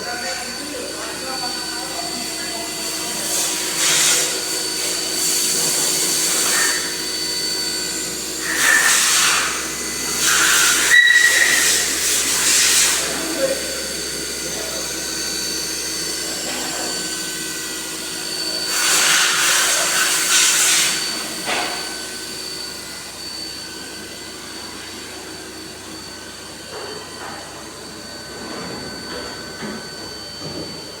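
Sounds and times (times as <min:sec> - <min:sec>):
milling machine spindle whine: 0:00.0 - 0:31.0.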